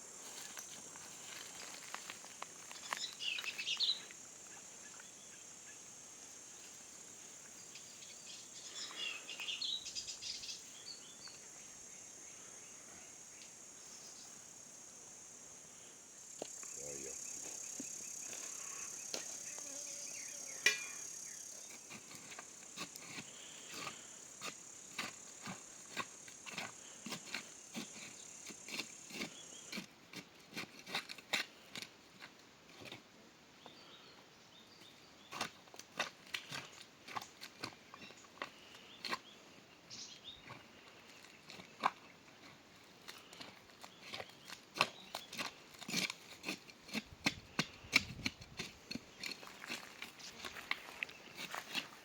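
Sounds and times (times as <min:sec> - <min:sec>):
insects chirring: 0:00.0 - 0:30.1, 0:36.1 - 0:52.0.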